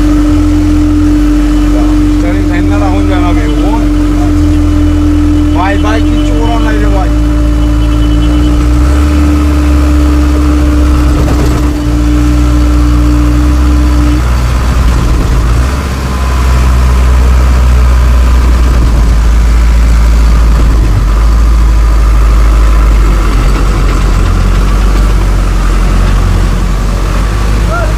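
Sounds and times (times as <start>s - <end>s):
engine rumbling steadily: 0.0s - 27.9s
steady tone: 0.0s - 27.9s.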